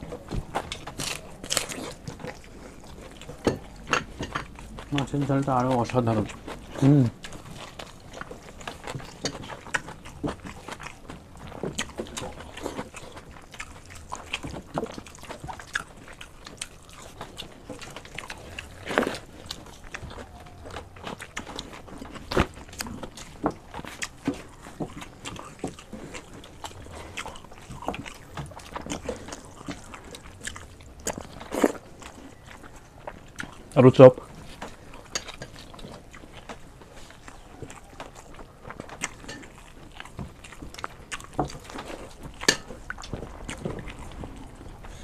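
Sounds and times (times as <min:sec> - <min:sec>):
wet chewing and lip smacks: 0:00.0 - 0:45.0.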